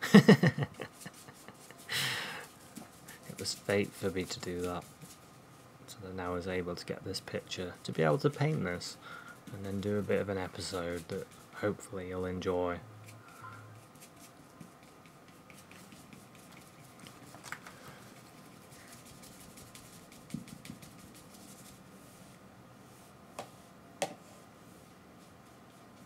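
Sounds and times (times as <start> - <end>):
faint steady hum: 0.0 - 26.0
paintbrush scratching on canvas: 0.7 - 5.4, 6.2 - 23.1.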